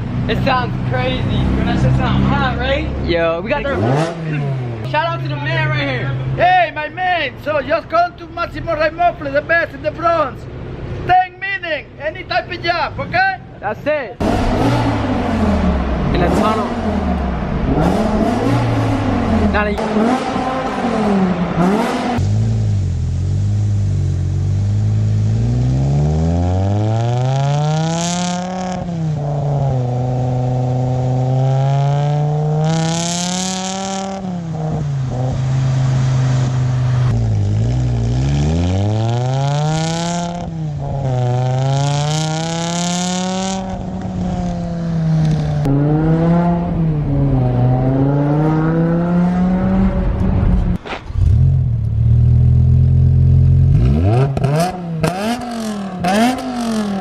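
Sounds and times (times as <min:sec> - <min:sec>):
car engine accelerating through gears: 0:00.8 - 0:04.9, 0:14.2 - 0:57.0.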